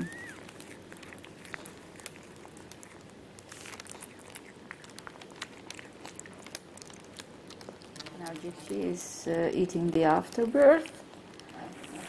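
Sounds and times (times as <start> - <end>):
cat licking and chewing clicks: 0.0 - 12.0.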